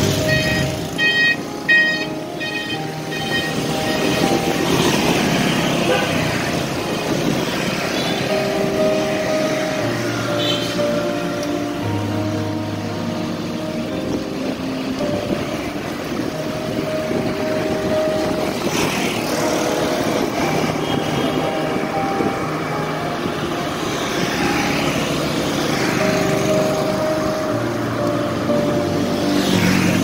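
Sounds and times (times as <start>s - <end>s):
motorbikes passing: 0.0s - 30.0s
street traffic noise: 0.0s - 30.0s.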